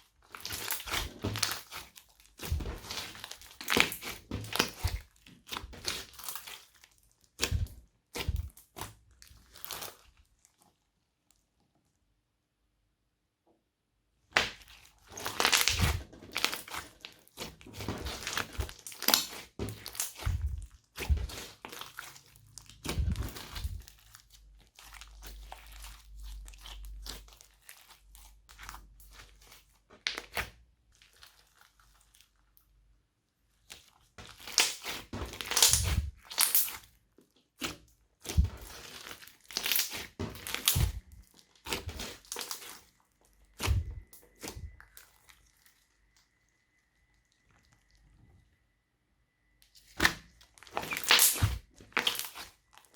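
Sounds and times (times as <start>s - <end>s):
slime crackling and popping: 0.0s - 10.7s, 14.3s - 32.5s, 33.6s - 46.4s, 49.8s - 52.9s.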